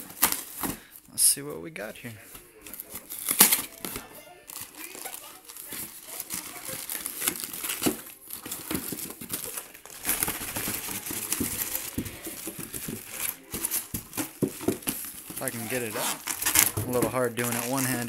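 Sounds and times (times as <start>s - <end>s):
packing rustling and crinkling: 0.0s - 1.0s, 2.6s - 18.0s.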